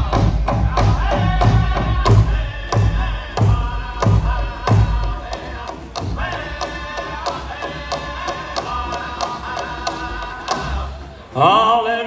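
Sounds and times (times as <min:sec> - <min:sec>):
large drum beating: 0:00.0 - 0:11.0.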